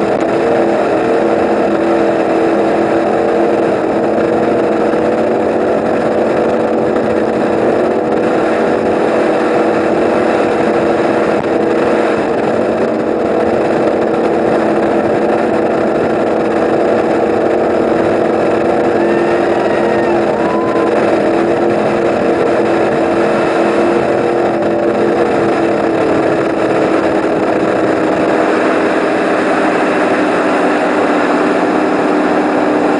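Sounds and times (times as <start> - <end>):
powerboat engines droning: 0.0 - 32.9.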